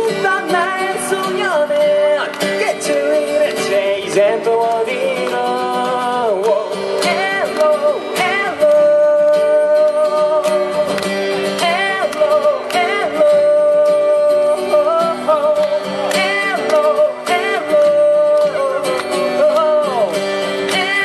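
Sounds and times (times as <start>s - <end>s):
man singing: 0.0s - 21.0s
strummed acoustic guitar: 0.0s - 21.0s.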